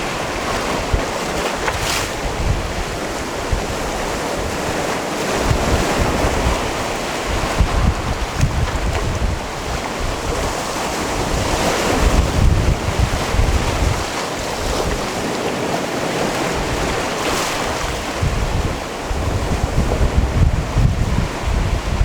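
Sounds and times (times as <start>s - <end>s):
waves on rocky shore: 0.0s - 22.0s
wind buffeting microphone: 0.0s - 22.0s.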